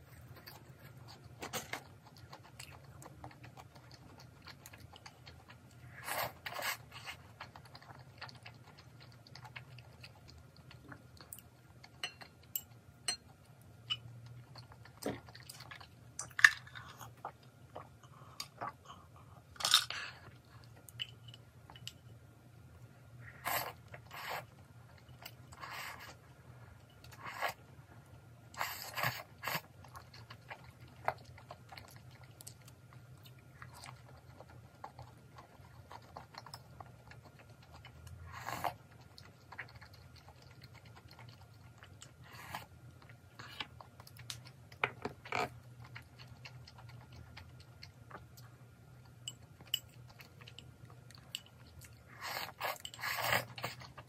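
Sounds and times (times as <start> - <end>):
chewing: 0.0 - 22.0, 28.5 - 54.0.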